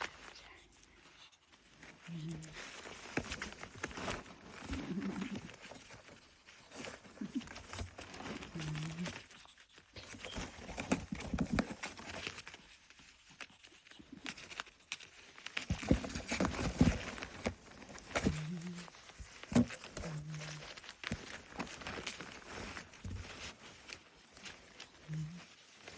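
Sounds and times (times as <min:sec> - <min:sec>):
ferret huffing and clicking: 0:00.0 - 0:25.9.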